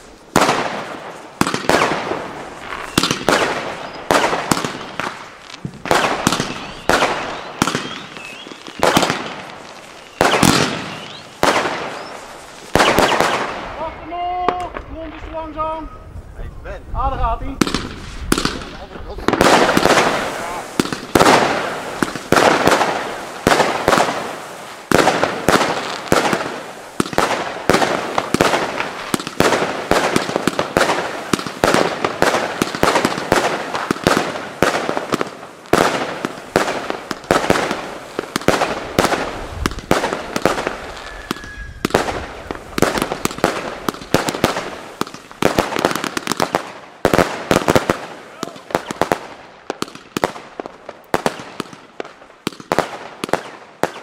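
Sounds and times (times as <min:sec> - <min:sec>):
firework bangs: 0:00.0 - 0:15.8, 0:17.4 - 0:54.0
firework crackling: 0:00.0 - 0:54.0.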